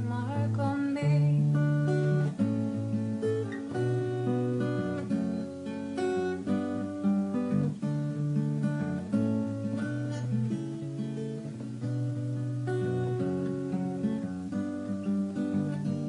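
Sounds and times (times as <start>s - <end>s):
strummed acoustic guitar chords: 0.0s - 16.0s.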